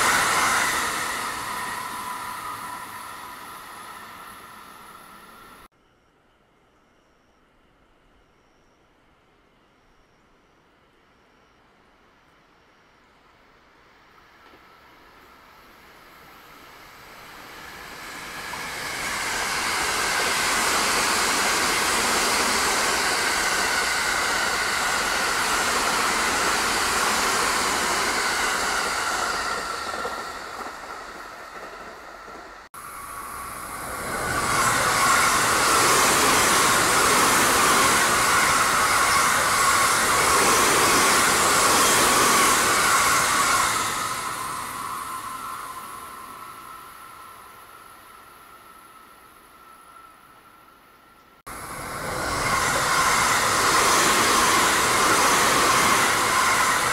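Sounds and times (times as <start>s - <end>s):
electric trains passing: 0.0s - 5.7s, 13.6s - 56.9s.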